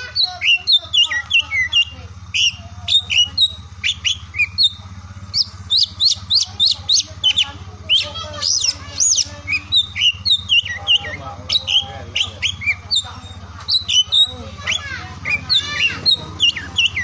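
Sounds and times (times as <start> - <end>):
bird singing whistles and chirps: 0.0 - 17.0.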